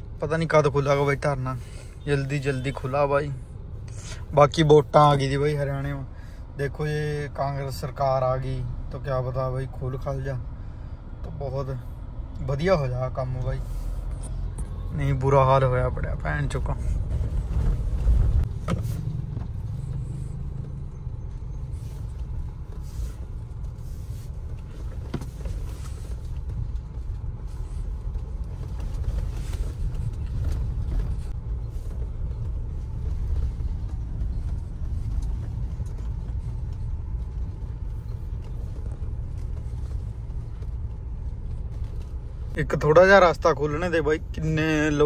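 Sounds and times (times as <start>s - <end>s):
car cabin road rumble: 0.0s - 45.0s.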